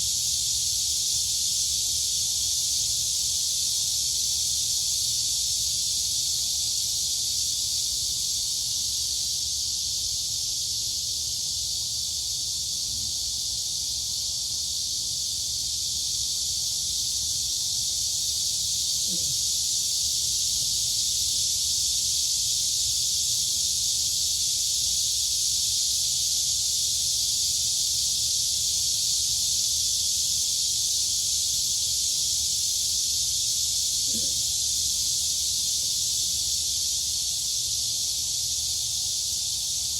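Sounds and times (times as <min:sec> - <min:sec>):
crickets and cicadas shrilling: 0:00.0 - 0:39.9.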